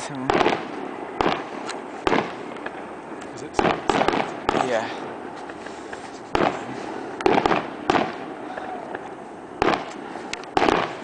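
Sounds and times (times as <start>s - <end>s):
background rumble: 0.0s - 11.0s
firework shells bursting: 0.0s - 11.0s.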